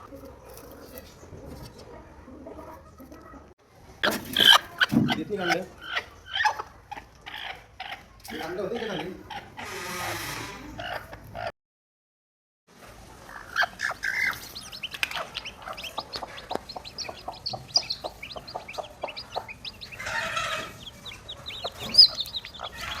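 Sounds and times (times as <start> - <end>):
chicks peeping: 0.0 - 9.8, 12.8 - 23.0.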